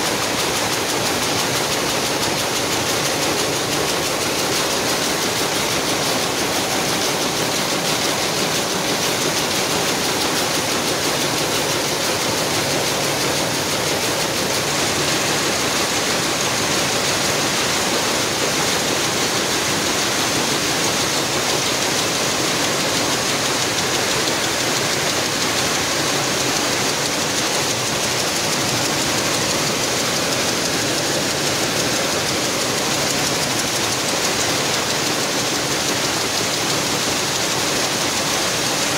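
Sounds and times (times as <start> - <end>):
looms clattering: 0.0 - 38.9.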